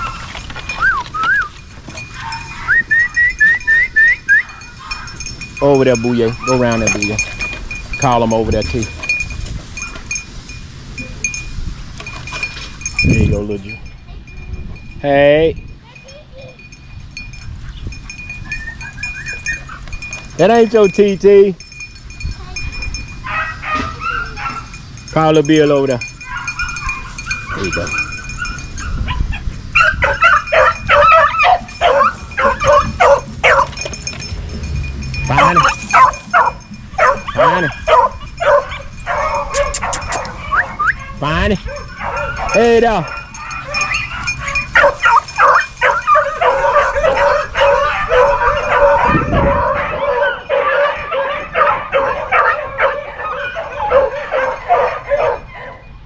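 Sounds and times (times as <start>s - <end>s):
puppies yipping and barking: 0.0s - 15.0s, 15.8s - 56.0s.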